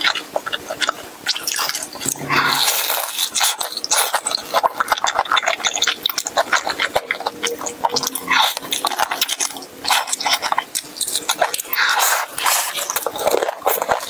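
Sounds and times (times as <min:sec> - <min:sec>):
crunchy chewing of fried chicken: 0:00.0 - 0:14.0.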